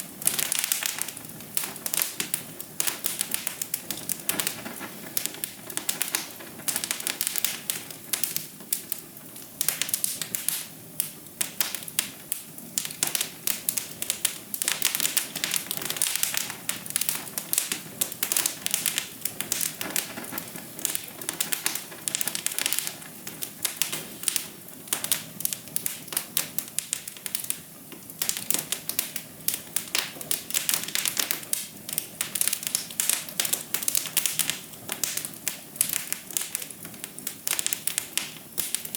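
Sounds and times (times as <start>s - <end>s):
fire crackling and popping: 0.0s - 38.9s
low steady hiss: 0.0s - 38.9s.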